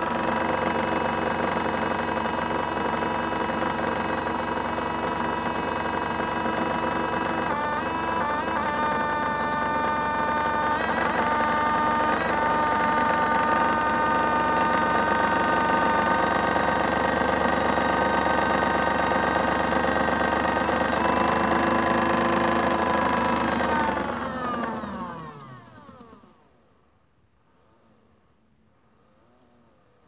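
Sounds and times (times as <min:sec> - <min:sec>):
toy washing machine motor whine: 0:00.0 - 0:26.6.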